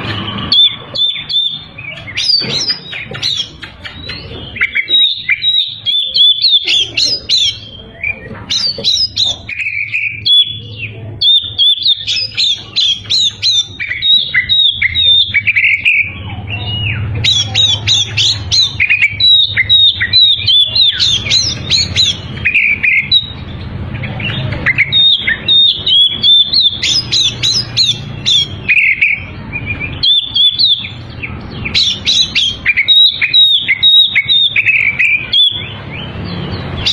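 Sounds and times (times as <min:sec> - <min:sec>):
bird singing chirps and whistles: 0:00.0 - 0:36.9.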